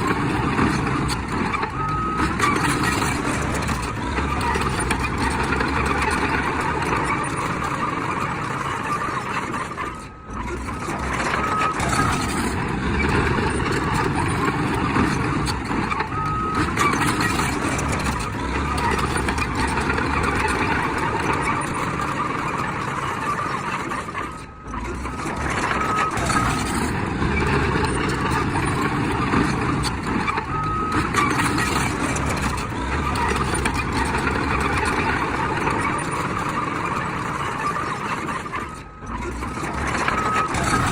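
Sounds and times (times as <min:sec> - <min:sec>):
bulldozer engine running: 0:00.0 - 0:40.9.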